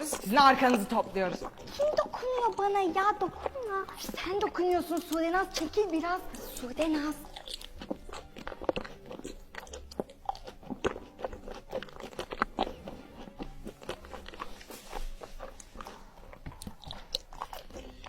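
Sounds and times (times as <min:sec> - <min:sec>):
crunchy food eating: 0:00.0 - 0:18.0.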